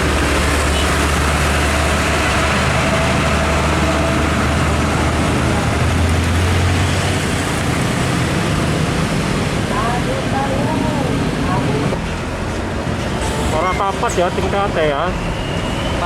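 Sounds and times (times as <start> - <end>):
heavy vehicle engine drone: 0.0 - 16.0
highway traffic passing: 0.0 - 16.0.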